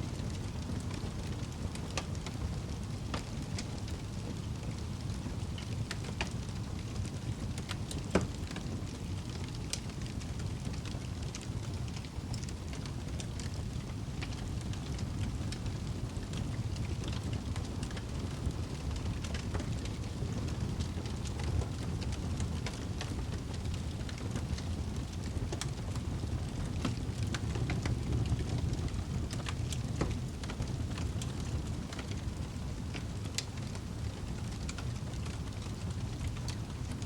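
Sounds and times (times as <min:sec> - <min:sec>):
fire crackles and pops: 0:00.0 - 0:37.0
wood fire burning with low roar: 0:00.0 - 0:37.0.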